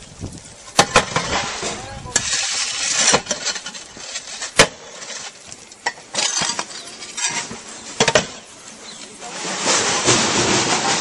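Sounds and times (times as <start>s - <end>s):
steady hiss: 0.0s - 11.0s
roof tiles knocking and clinking: 0.8s - 11.0s.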